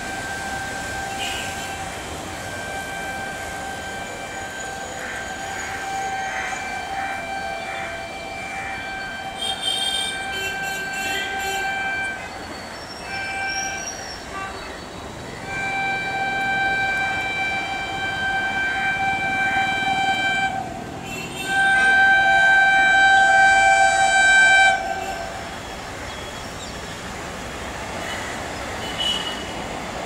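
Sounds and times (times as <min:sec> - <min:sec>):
locomotive horn blasts: 0:00.0 - 0:30.0
train rumbling: 0:00.0 - 0:30.0.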